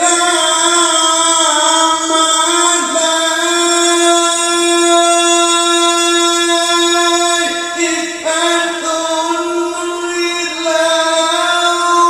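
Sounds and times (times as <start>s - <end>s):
man singing melodic recitation: 0.0s - 12.0s.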